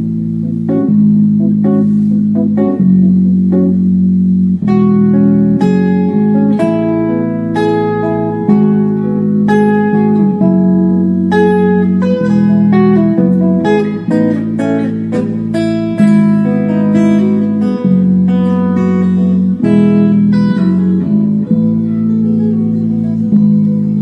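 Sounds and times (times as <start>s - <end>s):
instrumental guitar music: 0.0s - 24.0s.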